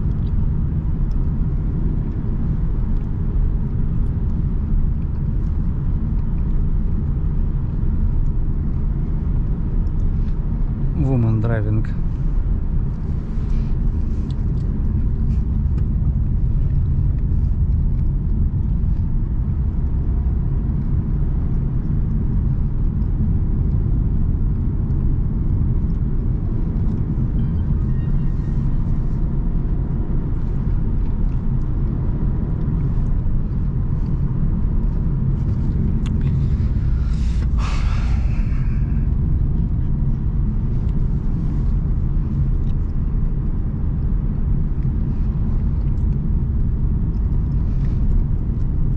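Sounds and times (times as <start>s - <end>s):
car engine and tyres rumbling: 0.0s - 48.9s.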